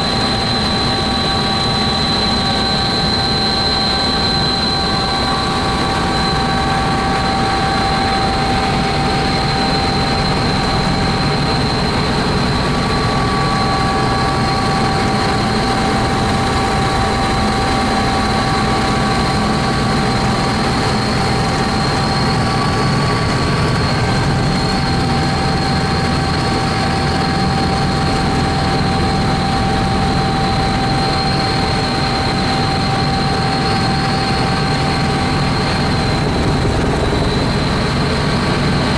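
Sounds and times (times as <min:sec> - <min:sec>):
helicopter rotor and engine drone: 0:00.0 - 0:38.9
high whine: 0:00.0 - 0:38.9.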